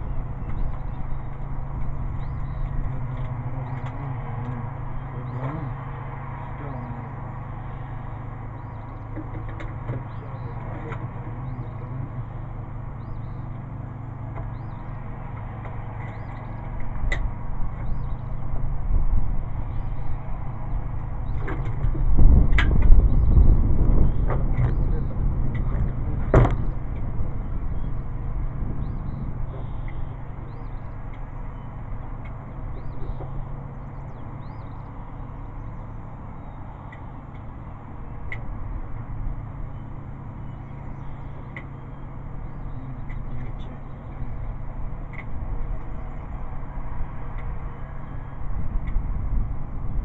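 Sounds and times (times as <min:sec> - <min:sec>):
faint bird chirps: 0:00.0 - 0:17.0, 0:17.7 - 0:18.5, 0:22.8 - 0:46.7
wind buffeting microphone: 0:00.0 - 0:50.0.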